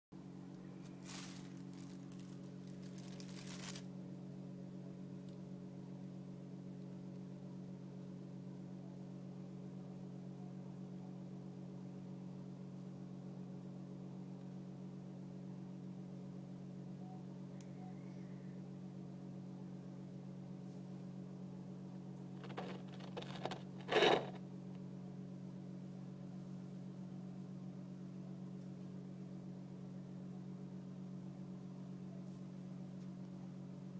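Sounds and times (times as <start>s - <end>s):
electrical hum: 0.2s - 33.9s.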